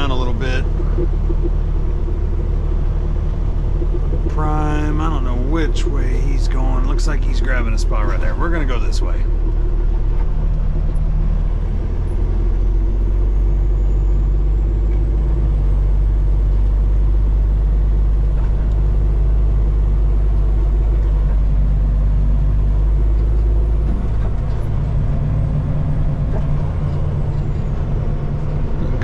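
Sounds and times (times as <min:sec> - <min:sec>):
diesel truck engine droning: 0:00.0 - 0:29.0.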